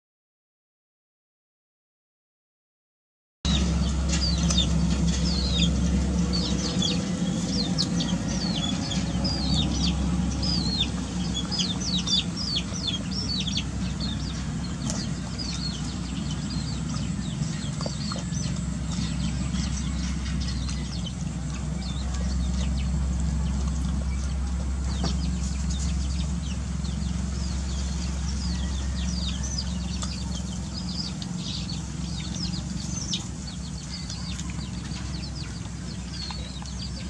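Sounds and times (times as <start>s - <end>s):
chicks peeping: 3.5s - 37.0s
steady low hum: 3.5s - 37.0s.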